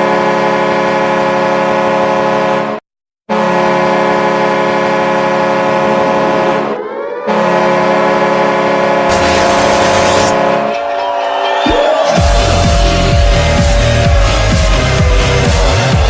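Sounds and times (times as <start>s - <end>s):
goal horn blasts: 0.0s - 16.0s.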